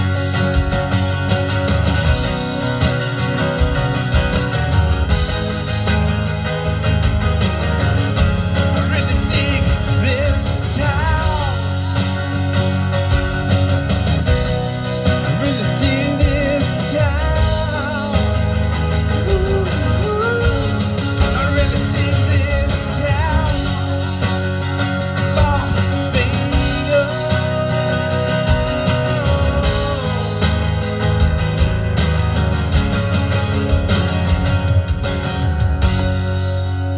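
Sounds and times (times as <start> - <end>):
gliding lead guitar line: 0.0 - 36.9
live rock band playing: 0.0 - 36.9.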